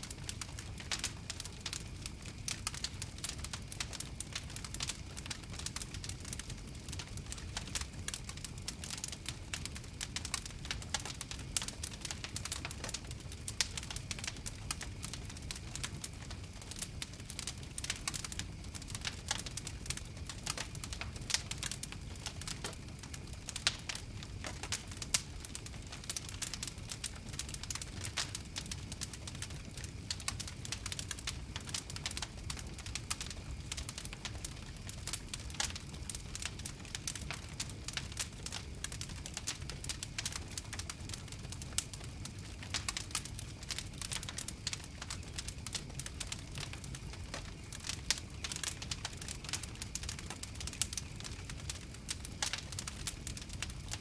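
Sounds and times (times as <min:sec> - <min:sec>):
fire crackling: 0:00.0 - 0:54.0
low rumble of flames: 0:00.0 - 0:54.0.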